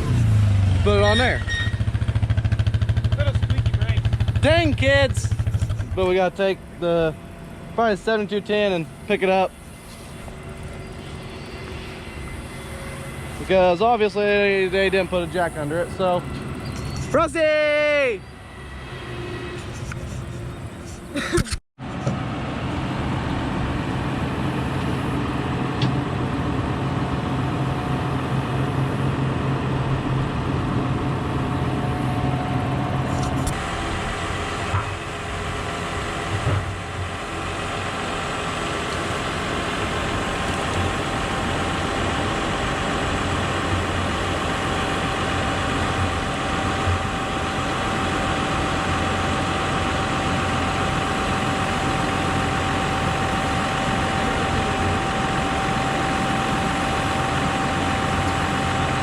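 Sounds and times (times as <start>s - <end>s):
high engine whine: 0.0s - 59.0s
tractor engine running: 0.0s - 59.0s.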